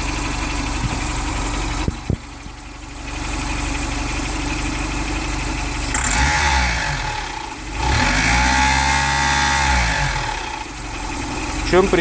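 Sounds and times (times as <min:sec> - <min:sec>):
engine knocking: 0:00.0 - 0:12.0
engine running: 0:00.0 - 0:12.0.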